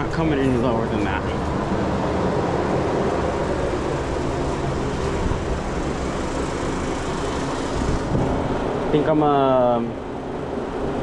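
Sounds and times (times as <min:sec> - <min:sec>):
refrigeration unit humming: 0:00.0 - 0:11.0.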